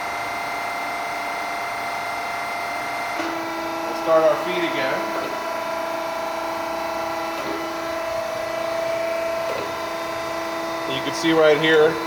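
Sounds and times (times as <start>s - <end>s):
surface grinder whining: 0.0s - 12.0s.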